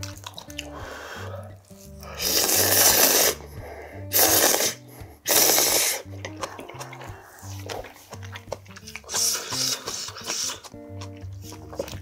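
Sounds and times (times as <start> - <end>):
background music with bass line: 0.0 - 12.0
person slurping noodles: 0.6 - 10.7.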